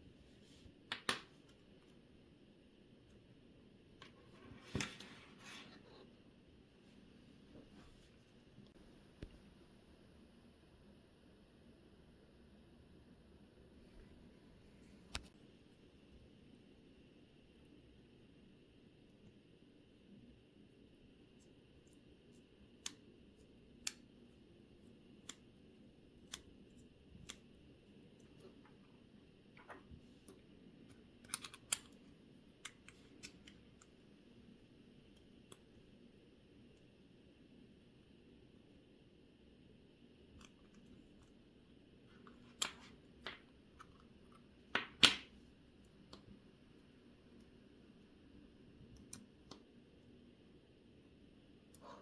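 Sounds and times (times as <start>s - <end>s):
faint room hiss: 0.0s - 52.0s.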